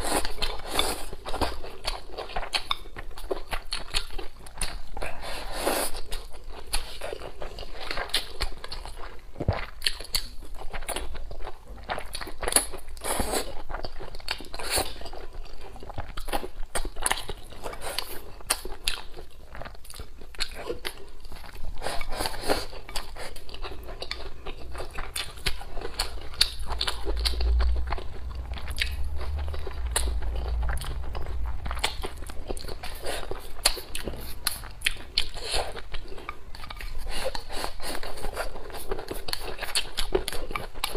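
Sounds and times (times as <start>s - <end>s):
wet chewing and biting: 0.0s - 40.9s.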